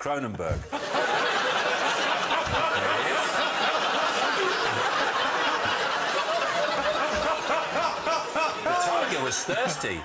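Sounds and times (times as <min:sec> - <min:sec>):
audience laughing: 0:00.7 - 0:10.0
host laughing: 0:00.8 - 0:09.7.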